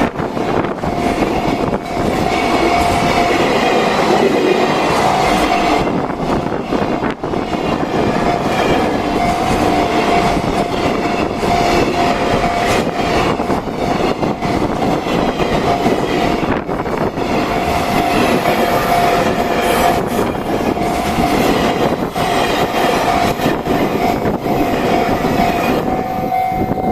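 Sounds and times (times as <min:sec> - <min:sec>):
freight train rumbling over rails: 0:00.0 - 0:26.9
level crossing warning bell: 0:00.0 - 0:26.9.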